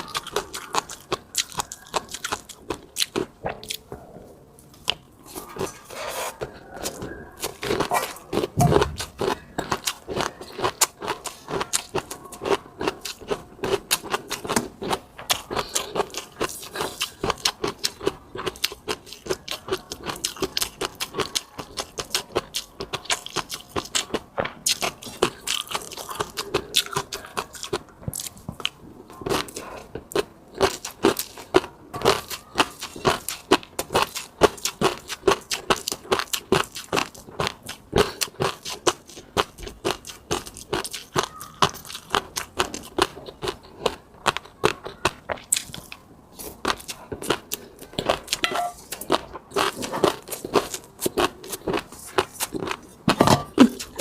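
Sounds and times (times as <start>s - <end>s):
person chewing and smacking: 0.0s - 54.0s.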